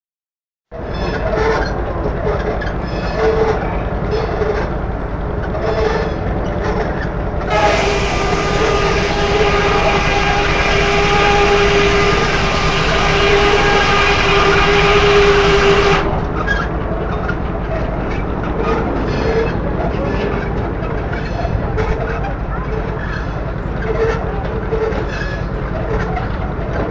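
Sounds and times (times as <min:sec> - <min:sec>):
steam sawmill tone: 0:01.0 - 0:26.9.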